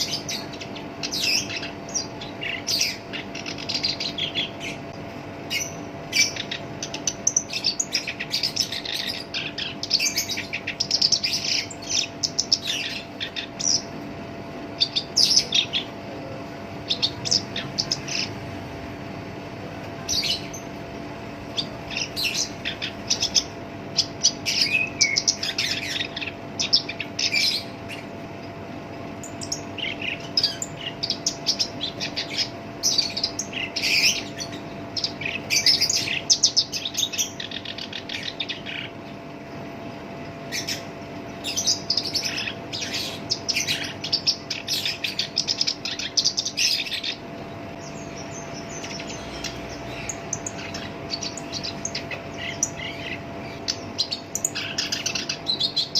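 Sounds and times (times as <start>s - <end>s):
warbler singing harsh chirps: 0.0s - 19.4s, 20.0s - 55.9s.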